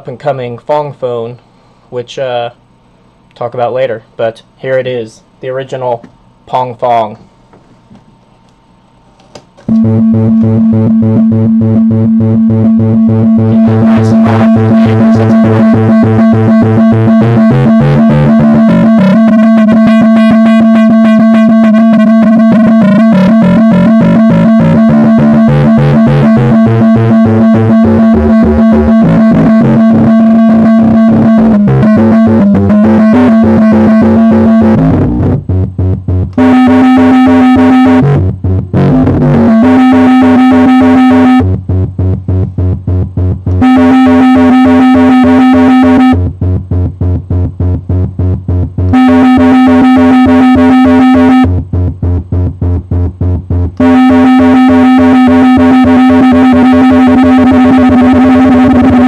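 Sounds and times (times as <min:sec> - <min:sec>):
held electronic synthesizer note: 0:09.7 - 0:59.0
stuttering electronic pulses: 0:09.7 - 0:59.0.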